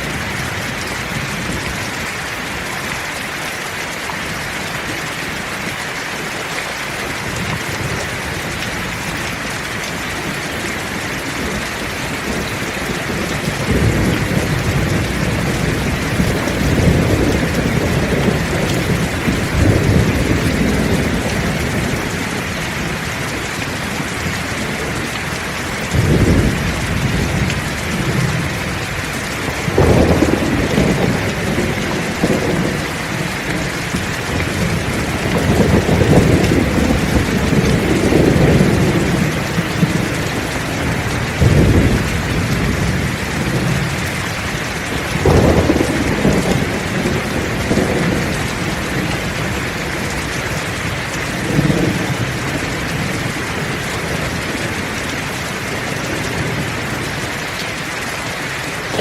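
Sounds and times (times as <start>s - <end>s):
heavy rain: 0.0s - 59.0s
thunder rumbling: 7.1s - 57.2s, 58.8s - 59.0s.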